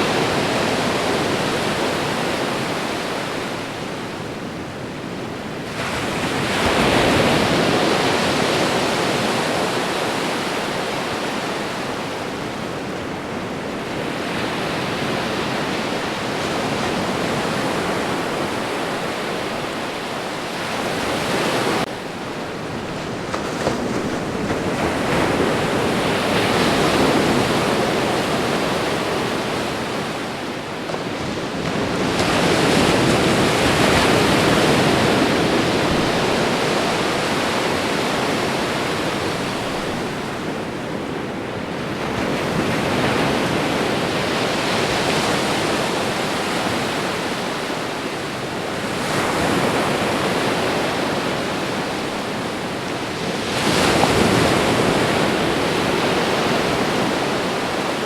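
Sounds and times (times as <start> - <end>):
ocean surf on shore: 0.0 - 58.0.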